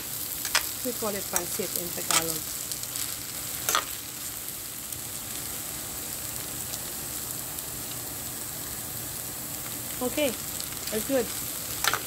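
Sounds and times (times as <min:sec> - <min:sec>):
noodles sizzling in a pan: 0:00.0 - 0:12.0.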